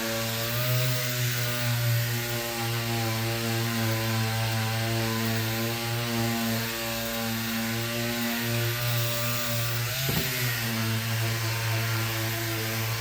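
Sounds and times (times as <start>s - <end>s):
electric power sander sanding wood: 0.0s - 13.0s.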